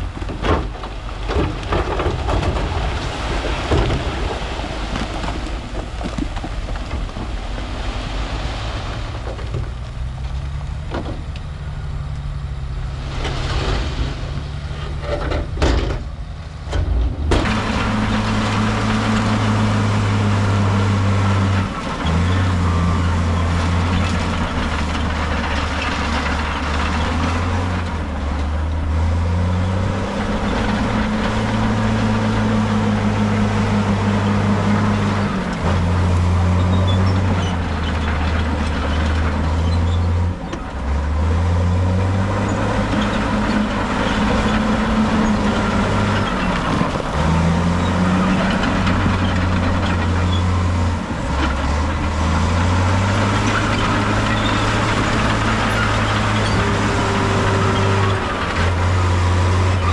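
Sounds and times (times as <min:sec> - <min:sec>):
diesel machinery engine revving: 0:06.8 - 0:59.9.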